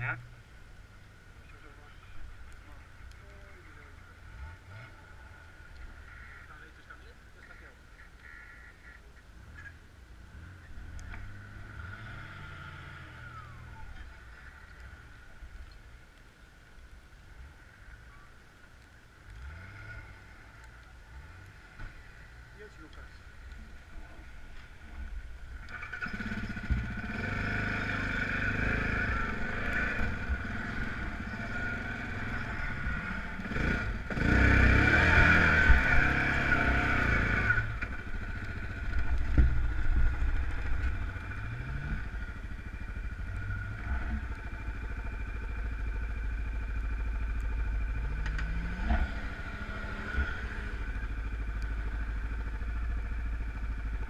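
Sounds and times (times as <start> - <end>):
off-road vehicle engines revving: 1.3 - 15.8, 19.2 - 54.0.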